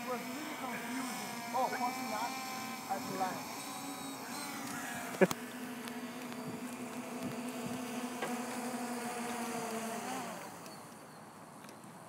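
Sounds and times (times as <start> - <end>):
drone propellers buzzing: 0.0 - 11.6.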